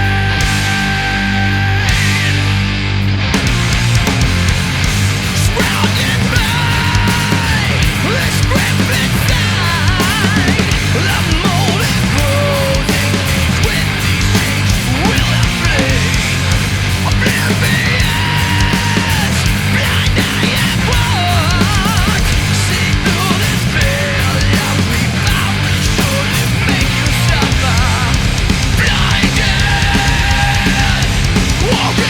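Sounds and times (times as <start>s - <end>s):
loud rock music: 0.0s - 32.0s.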